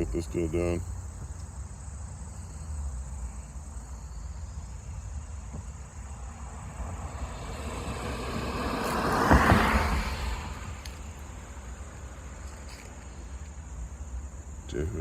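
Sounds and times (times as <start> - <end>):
car passing: 1.8 - 15.0.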